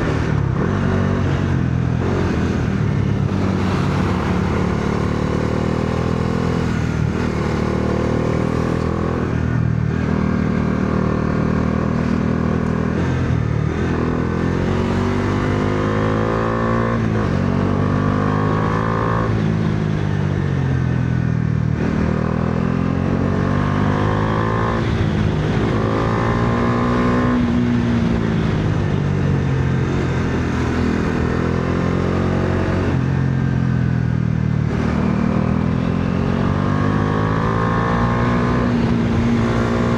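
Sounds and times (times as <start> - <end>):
motorcycle engine revving: 0.0 - 20.9, 21.7 - 39.9.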